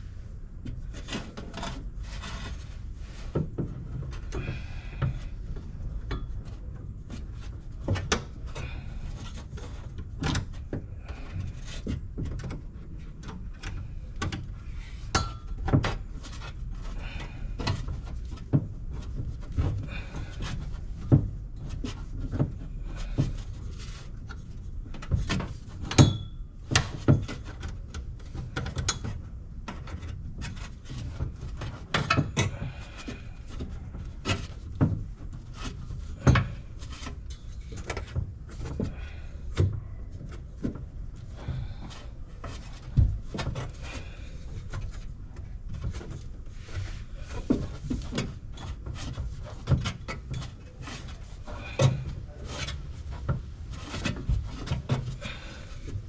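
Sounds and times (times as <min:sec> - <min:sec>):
low steady rumble: 0:00.0 - 0:56.0.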